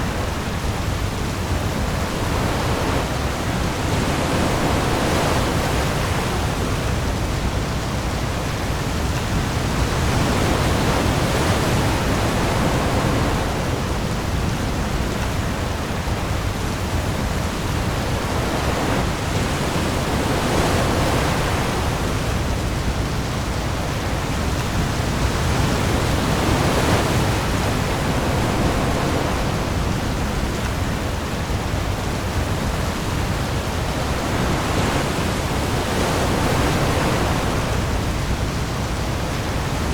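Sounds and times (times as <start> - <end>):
heavy rain on sea: 0.0 - 39.9.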